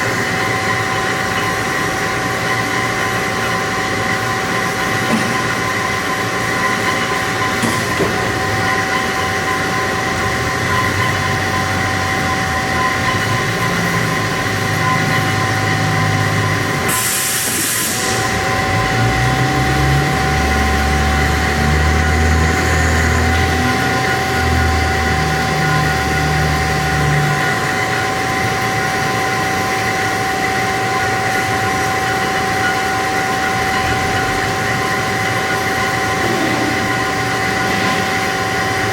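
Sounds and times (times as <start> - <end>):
band saw whining: 0.0 - 38.9.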